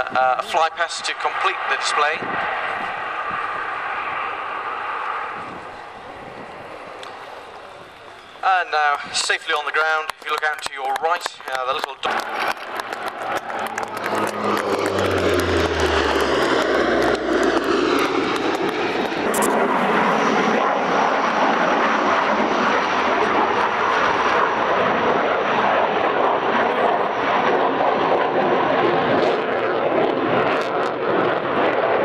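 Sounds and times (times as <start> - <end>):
turboprop propeller drone: 0.0 - 8.4, 9.0 - 32.0
fighter jet noise: 0.0 - 32.0.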